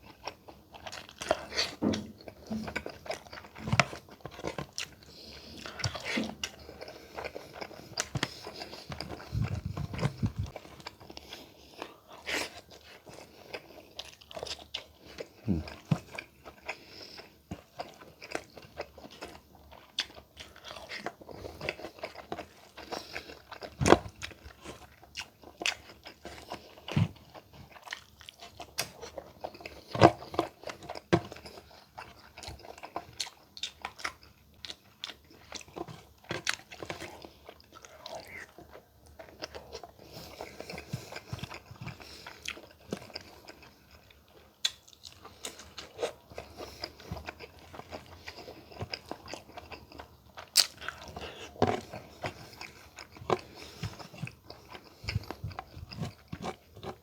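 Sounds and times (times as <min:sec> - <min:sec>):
close-miked chewing and crunching: 0:00.0 - 0:57.0.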